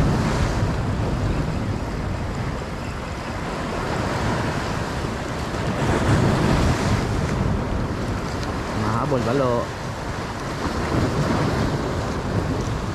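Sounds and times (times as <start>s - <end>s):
surf breaking against rocks: 0.0s - 12.9s.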